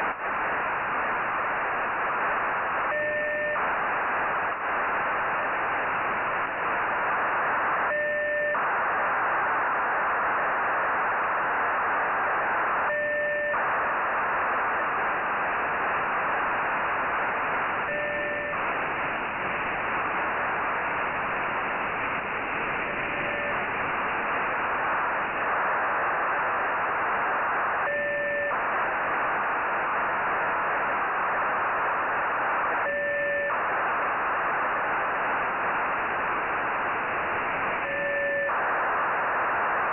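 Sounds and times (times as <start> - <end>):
radio hiss: 0.0 - 39.9.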